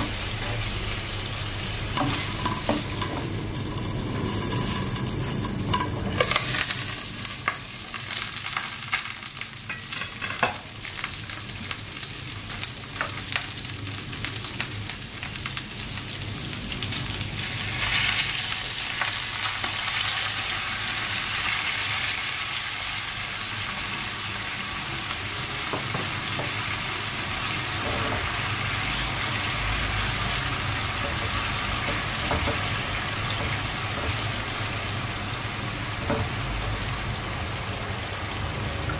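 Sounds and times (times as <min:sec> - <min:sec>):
meat sizzling in oil: 0:00.0 - 0:38.9.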